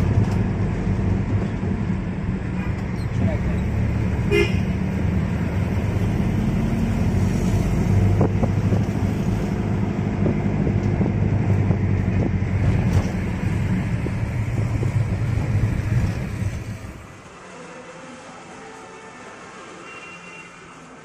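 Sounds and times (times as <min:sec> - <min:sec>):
car engine and tyre rumble: 0:00.0 - 0:18.1.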